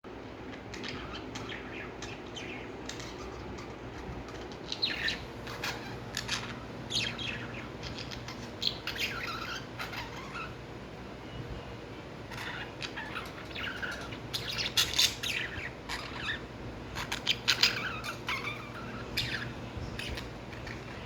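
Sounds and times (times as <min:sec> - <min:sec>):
lovebirds chirping: 0:00.1 - 0:21.0
low steady hum: 0:00.1 - 0:21.0.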